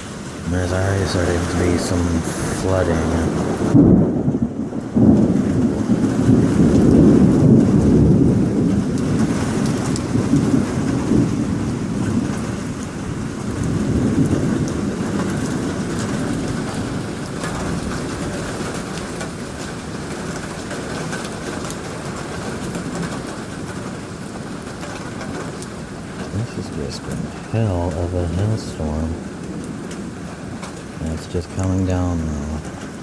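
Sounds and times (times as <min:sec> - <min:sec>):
heavy rain and hail: 0:00.0 - 0:33.0.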